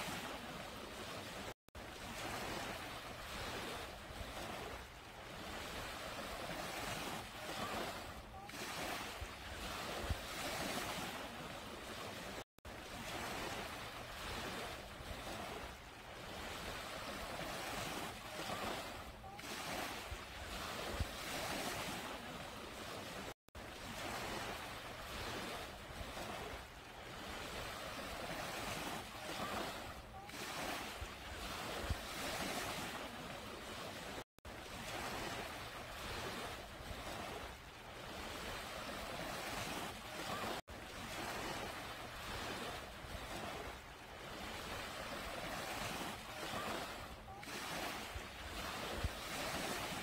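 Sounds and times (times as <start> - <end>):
waves washing onto sandy beach: 0.0 - 50.0.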